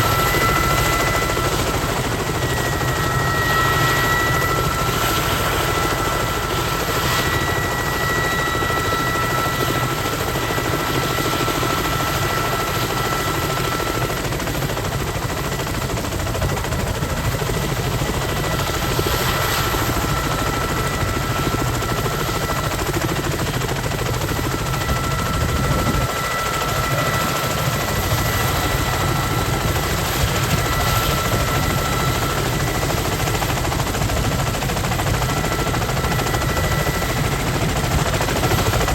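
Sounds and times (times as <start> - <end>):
helicopter engine whine: 0.0 - 38.9
helicopter rotors turning: 0.0 - 38.9.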